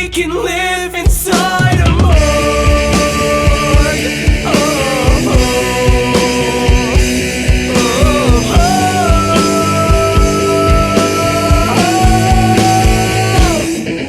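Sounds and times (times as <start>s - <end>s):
rock band playing live: 1.0s - 14.0s.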